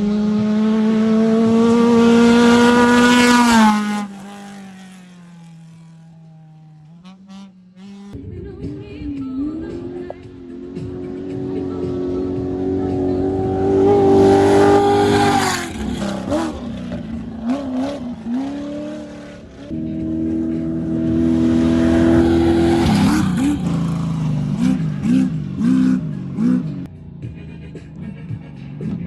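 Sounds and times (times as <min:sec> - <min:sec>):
race vehicles passing at high revs: 0:00.0 - 0:08.2, 0:09.6 - 0:26.9
engine throttle blips: 0:00.0 - 0:29.0.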